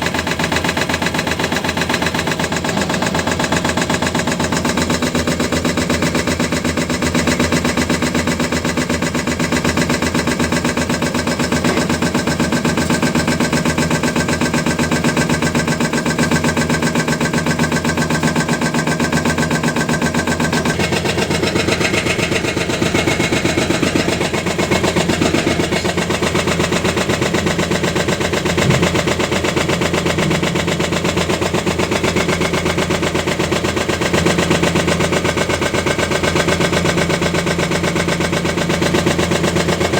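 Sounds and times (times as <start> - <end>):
excavator diesel engine clattering: 0.0 - 39.9.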